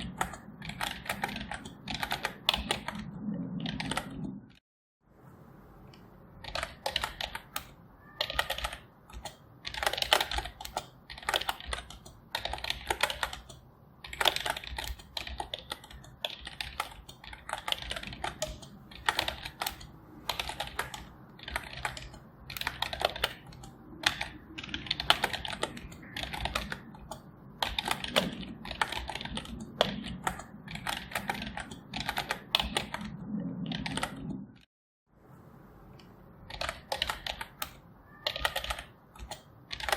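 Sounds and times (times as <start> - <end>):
keyboard typing: 0.0 - 4.6, 5.9 - 34.7, 36.0 - 39.9.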